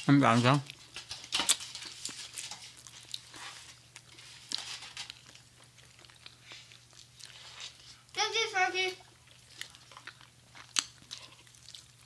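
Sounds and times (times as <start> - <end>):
people chewing: 0.0 - 8.2, 8.9 - 12.0.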